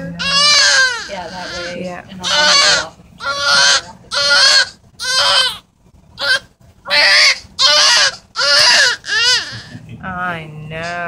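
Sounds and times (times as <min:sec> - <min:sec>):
newborn baby crying: 0:00.1 - 0:09.8.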